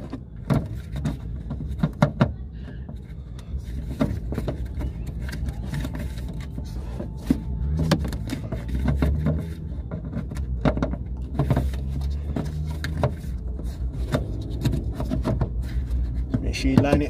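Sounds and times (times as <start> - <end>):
plastic cover clicking and scraping: 0.0 - 17.0
steady low rumble: 0.0 - 17.0.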